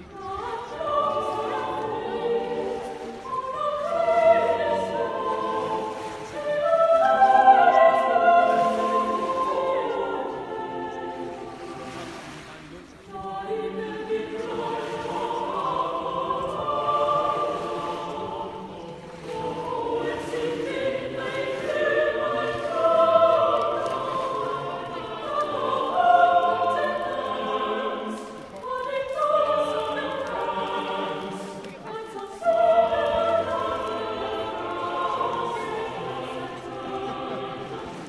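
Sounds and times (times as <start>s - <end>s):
choir singing slow melody: 0.0s - 38.0s.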